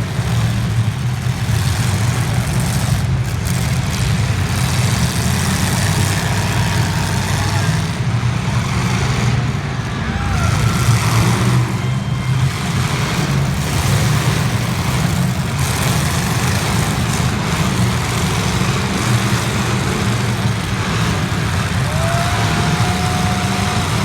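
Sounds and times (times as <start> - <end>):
car engines droning: 0.0 - 24.0.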